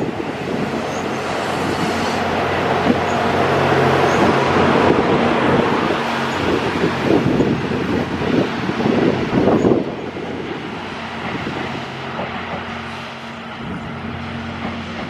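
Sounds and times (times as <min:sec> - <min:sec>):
train engine hum: 0:00.0 - 0:15.0
train wheels rumbling on rails: 0:00.0 - 0:15.0.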